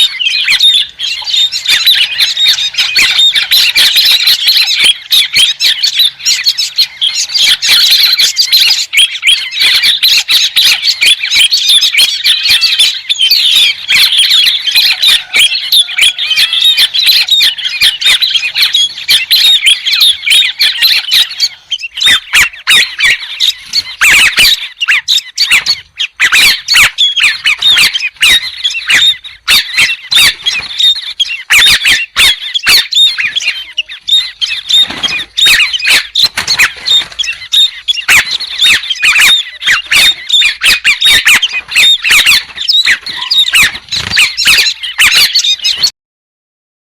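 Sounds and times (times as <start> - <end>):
birds squawking harshly: 0.0 - 46.0.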